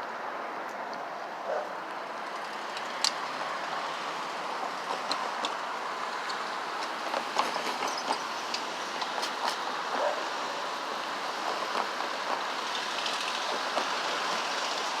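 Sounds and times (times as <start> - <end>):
train cars rolling: 1.4 - 15.0
wheels clacking over rails: 2.1 - 15.0.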